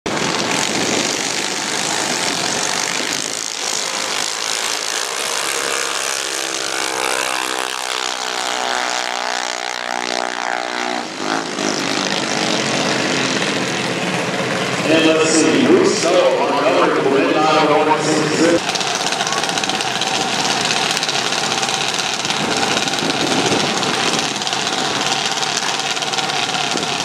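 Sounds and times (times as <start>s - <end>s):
dragster engines buzzing: 0.1s - 27.0s
pitched engine drone: 0.1s - 27.0s.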